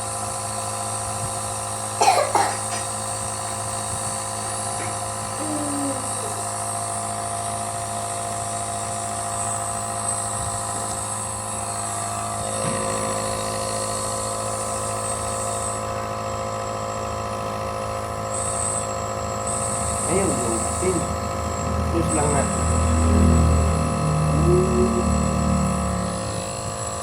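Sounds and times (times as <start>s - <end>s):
compressor motor hum: 0.0s - 27.0s.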